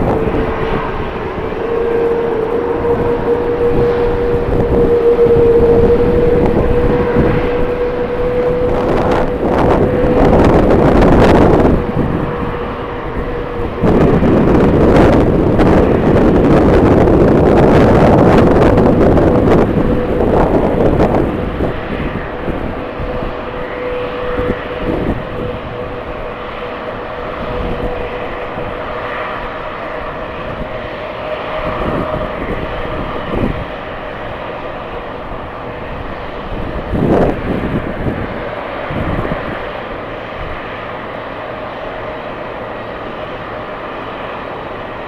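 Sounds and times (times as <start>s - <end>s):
jet engines whining: 0.0s - 45.0s
wind buffeting microphone: 0.0s - 45.0s.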